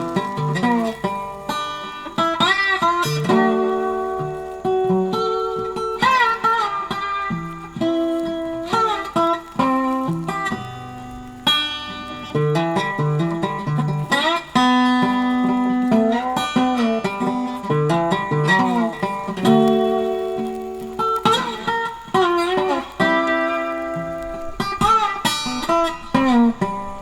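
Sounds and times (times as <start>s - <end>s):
blues guitar tune: 0.0s - 27.0s.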